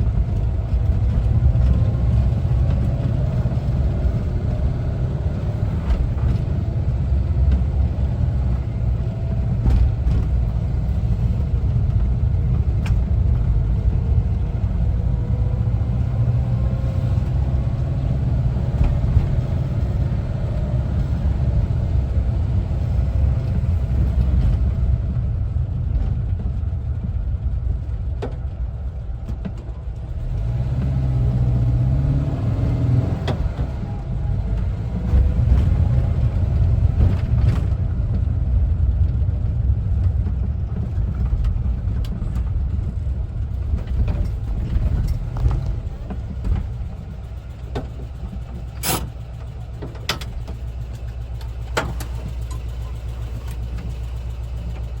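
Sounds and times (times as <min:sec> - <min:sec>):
road rumble: 0:00.0 - 0:55.0
van engine running: 0:00.0 - 0:55.0.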